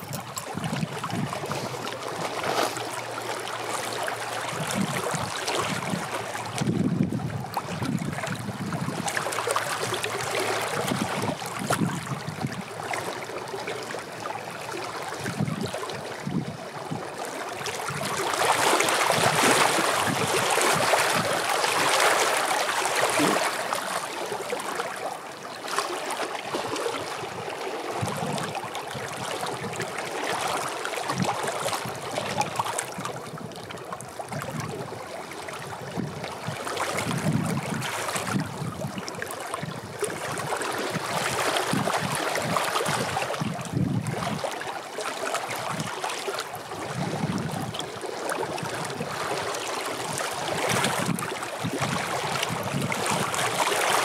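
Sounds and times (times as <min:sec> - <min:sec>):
waves lapping over rocks: 0:00.0 - 0:54.0.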